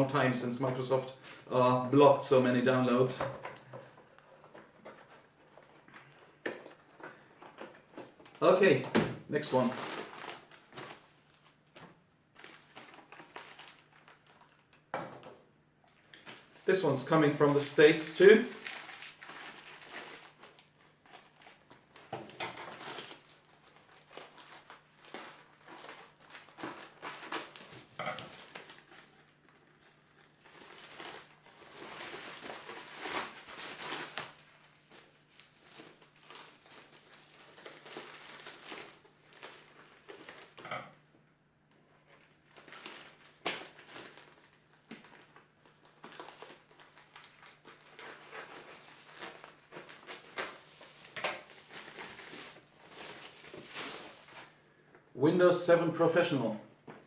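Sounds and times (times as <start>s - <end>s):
plastic and paper crinkling: 2.8s - 14.9s, 15.9s - 40.6s, 41.8s - 54.7s.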